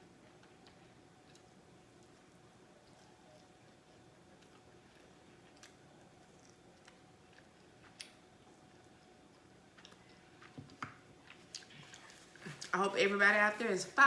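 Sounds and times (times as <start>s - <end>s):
quiet chewing of food: 0.1s - 12.8s.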